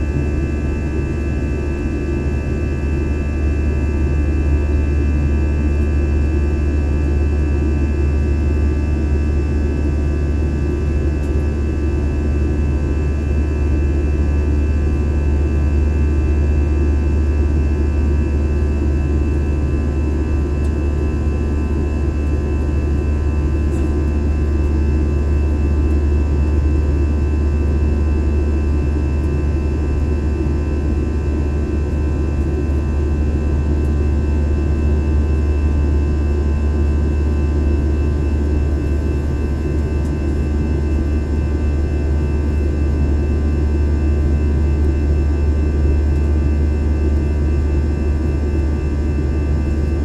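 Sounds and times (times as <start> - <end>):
jet airliner cabin drone: 0.0 - 50.0.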